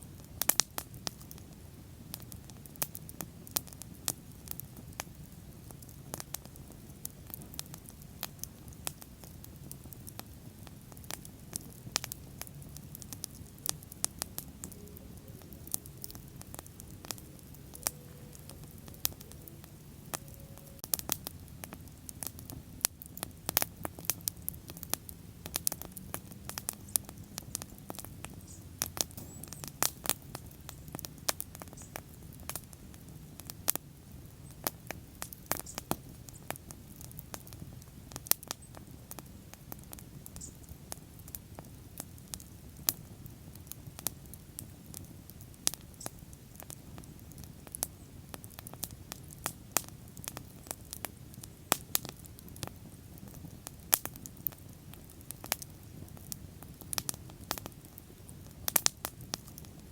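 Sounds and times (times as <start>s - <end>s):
low rumble of flames: 0.0s - 59.9s
wood crackling and popping: 0.0s - 59.9s.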